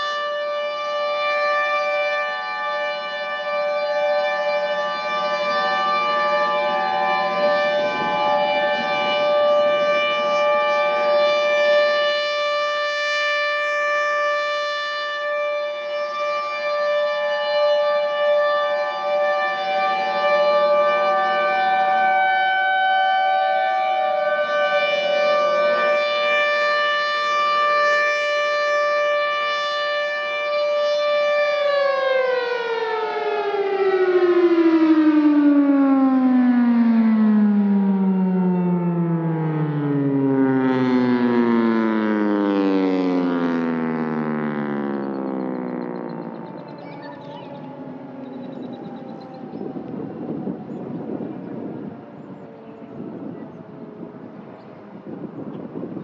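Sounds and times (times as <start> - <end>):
warning sirens: 0.0 - 56.0.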